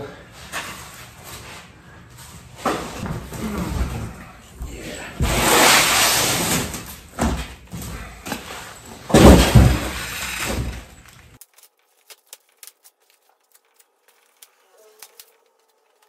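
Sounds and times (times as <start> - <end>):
cardboard and foam rustling: 0.3 - 16.0.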